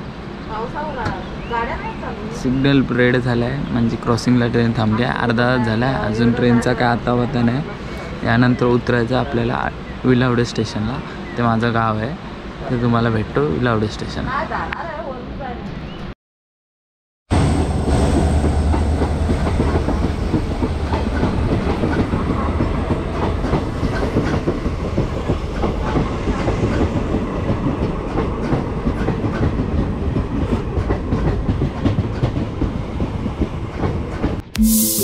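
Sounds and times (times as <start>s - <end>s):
train rumbling on track: 0.0s - 14.8s, 17.3s - 34.5s.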